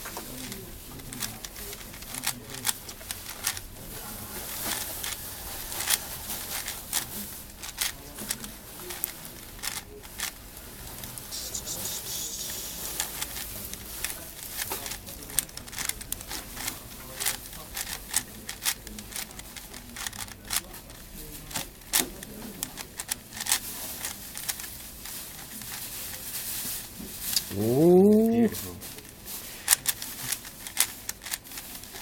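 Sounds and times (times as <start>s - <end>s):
puzzle cube clicking: 0.4s - 3.8s, 4.4s - 26.2s, 27.3s - 28.6s, 29.6s - 32.0s.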